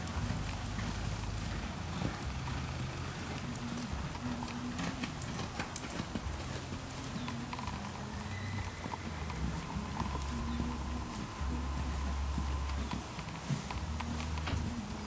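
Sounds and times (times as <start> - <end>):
horse hoofbeats on dirt: 0.0 - 15.0.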